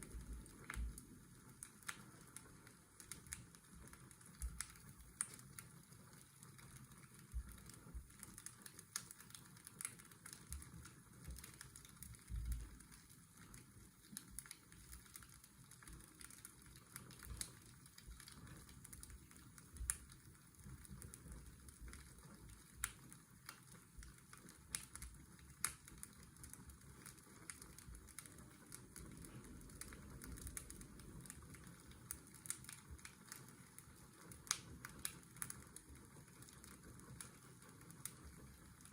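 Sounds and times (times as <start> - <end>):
fireplace crackling and popping: 0.0 - 38.9.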